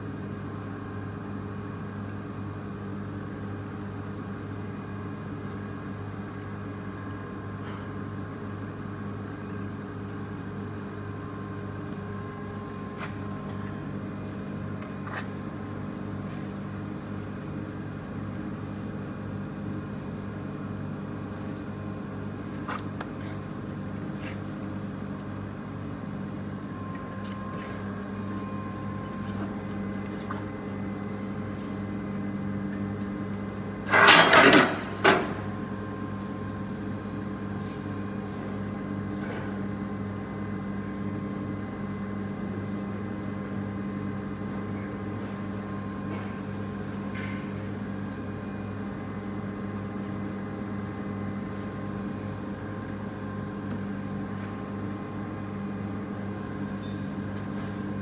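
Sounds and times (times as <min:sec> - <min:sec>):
meat separator machine humming: 0:00.0 - 0:58.0.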